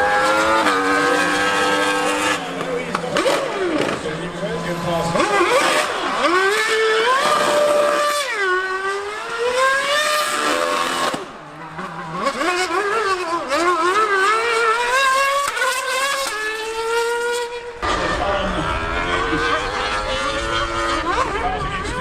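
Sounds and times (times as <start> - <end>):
racing car engine: 0.0 - 22.0
superbike engine revving: 0.0 - 22.0.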